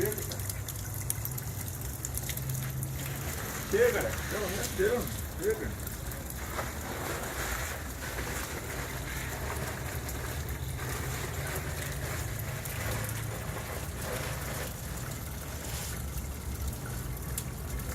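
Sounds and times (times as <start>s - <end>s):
rush of air and water: 0.0s - 17.9s.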